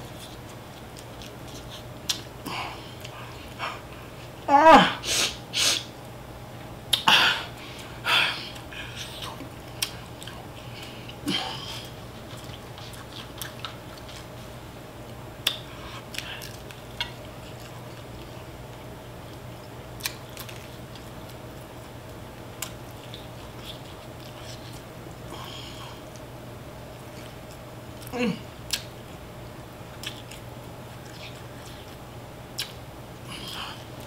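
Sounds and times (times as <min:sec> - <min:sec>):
person chewing fried chicken: 0:00.0 - 0:04.4, 0:06.9 - 0:26.3, 0:29.9 - 0:34.0.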